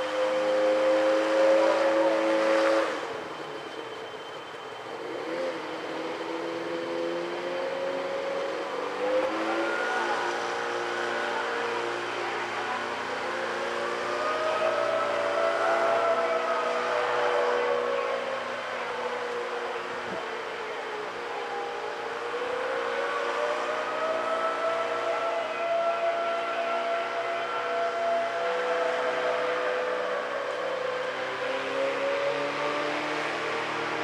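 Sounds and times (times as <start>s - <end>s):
loud multi-tone horn blast: 0.0s - 3.4s, 8.6s - 20.2s, 21.3s - 33.7s
emergency sirens wailing: 0.0s - 34.0s
traffic noise: 0.0s - 34.0s.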